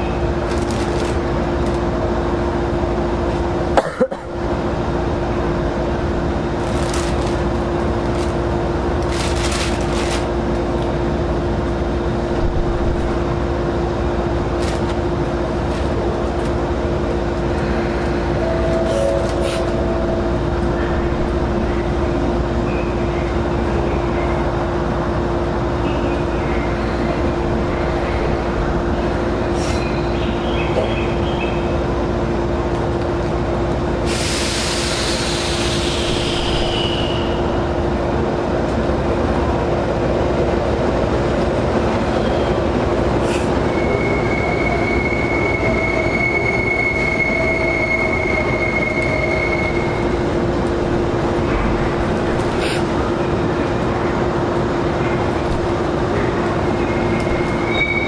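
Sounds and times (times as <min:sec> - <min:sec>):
train cabin hum: 0:00.0 - 0:58.0.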